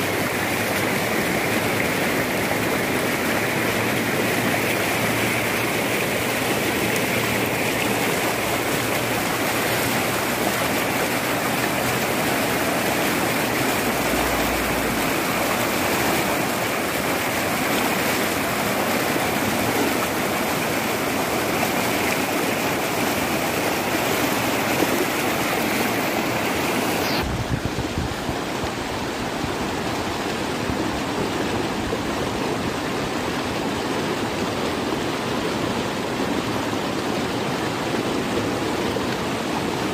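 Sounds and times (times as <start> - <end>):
flood water and mud rushing: 0.0 - 39.9.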